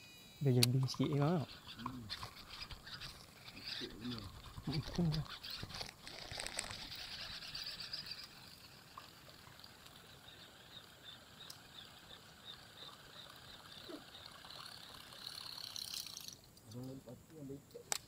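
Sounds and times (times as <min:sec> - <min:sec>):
high-pitched insect chirping: 0:00.0 - 0:16.5.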